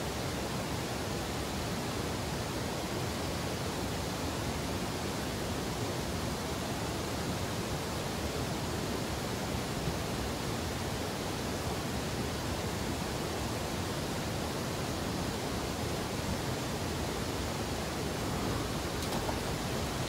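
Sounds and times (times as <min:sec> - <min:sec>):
river water rushing: 0:00.7 - 0:20.0.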